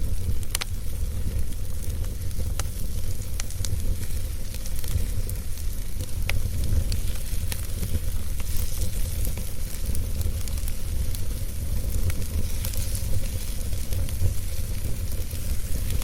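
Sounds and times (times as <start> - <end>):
fire crackles and pops: 0.0 - 16.0
fire low rumble: 0.0 - 16.0.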